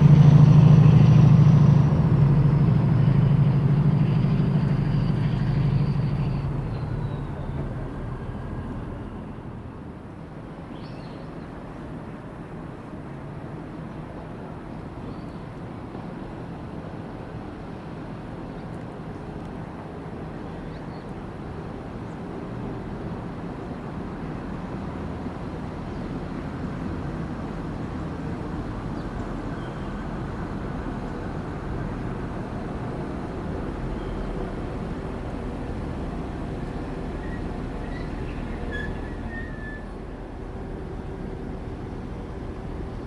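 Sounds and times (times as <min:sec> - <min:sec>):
diesel train rumbling: 0:00.0 - 0:43.0.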